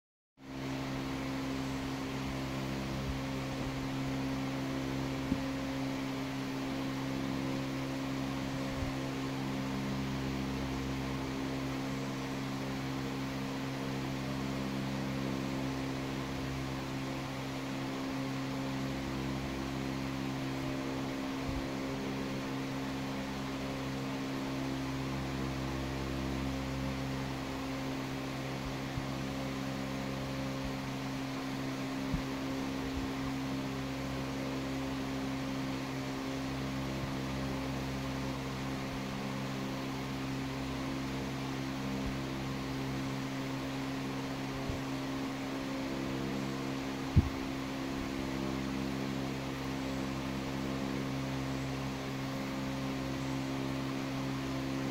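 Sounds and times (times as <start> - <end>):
low mechanical hum: 0.4 - 54.9.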